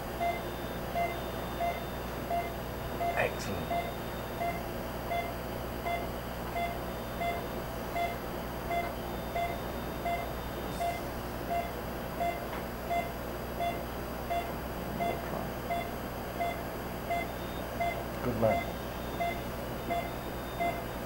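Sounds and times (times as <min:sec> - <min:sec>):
equipment hum: 0:00.0 - 0:21.0
monitor beeping: 0:00.2 - 0:21.0.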